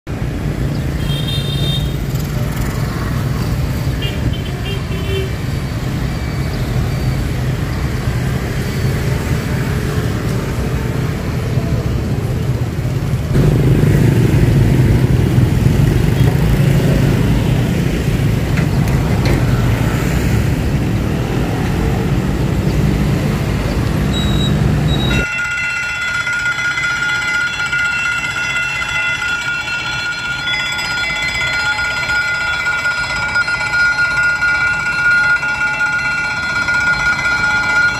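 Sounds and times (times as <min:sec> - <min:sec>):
diesel locomotive engine hum: 0:00.1 - 0:37.9.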